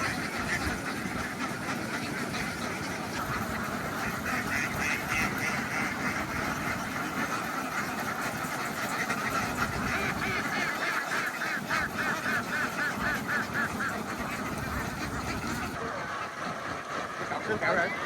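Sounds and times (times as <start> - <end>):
ducks quacking: 0.0 - 18.0
rapid repeated quacks: 0.0 - 18.0.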